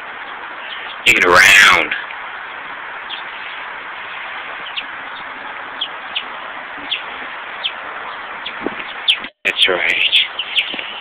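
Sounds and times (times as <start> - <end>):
steady hiss: 0.0 - 11.0
chickens peeping: 0.1 - 1.2, 2.0 - 11.0.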